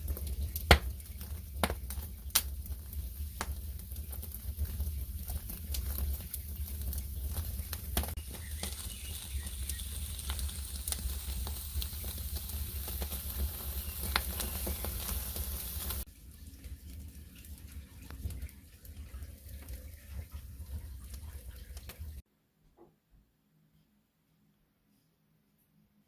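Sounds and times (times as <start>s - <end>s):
cooking fire crackling and popping: 0.0s - 22.2s.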